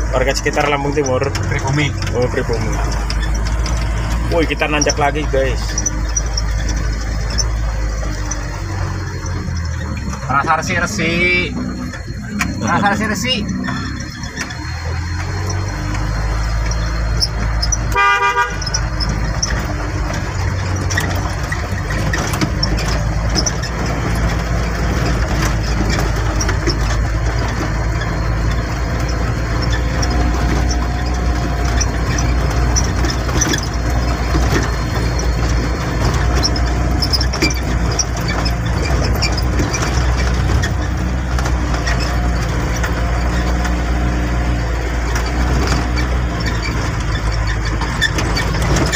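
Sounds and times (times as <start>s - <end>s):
knocks and rattles: 0.0s - 48.9s
truck engine running: 0.0s - 48.9s.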